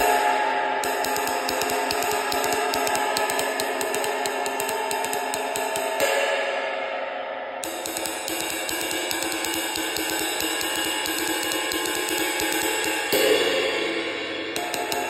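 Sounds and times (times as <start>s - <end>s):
crash ride cymbal played with stick: 0.0s - 15.0s.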